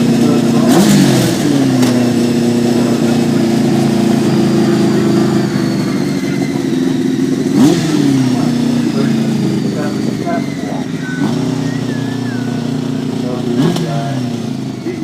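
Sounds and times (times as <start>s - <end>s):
racing engine at high revs: 0.0s - 15.0s.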